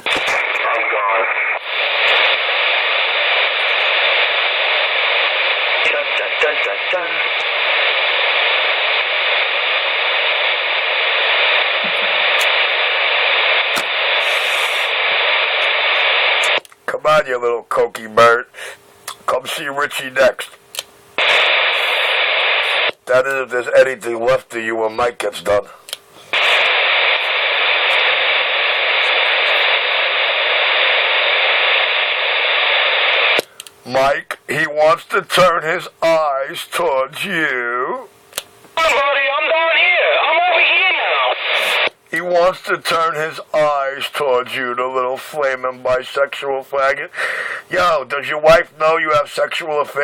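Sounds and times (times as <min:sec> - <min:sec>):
radio static hiss: 0:00.0 - 0:50.0.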